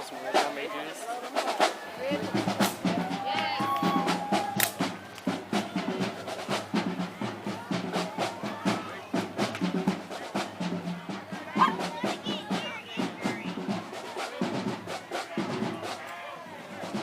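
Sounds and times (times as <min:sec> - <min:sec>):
snare drum strikes and rolls: 0:01.2 - 0:16.1
parade band drums: 0:01.2 - 0:17.0.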